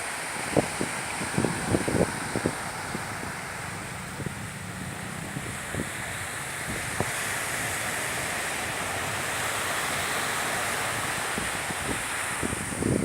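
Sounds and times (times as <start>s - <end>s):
surf washing ashore: 0.0s - 13.0s
wind blowing across microphone: 0.0s - 13.0s.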